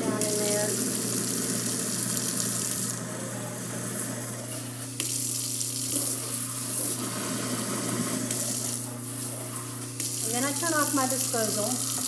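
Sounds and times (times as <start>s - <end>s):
water pouring from faucet: 0.0s - 3.0s, 5.0s - 12.0s
sink sprayer rinsing: 0.0s - 4.2s, 4.8s - 12.0s
garbage disposal humming: 0.0s - 12.0s.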